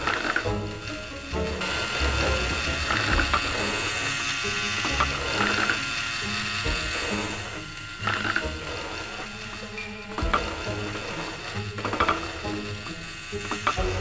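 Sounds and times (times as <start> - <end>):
plastic gears ticking and whirring: 0.0 - 14.0.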